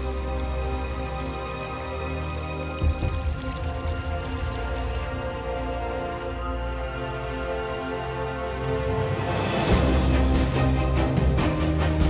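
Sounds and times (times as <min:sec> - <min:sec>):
music of held layered notes: 0:00.0 - 0:12.0.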